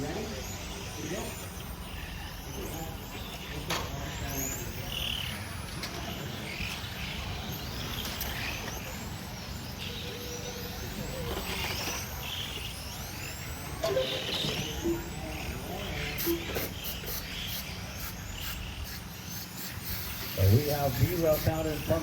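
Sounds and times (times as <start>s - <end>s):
rc car motor whine: 0.0s - 22.0s.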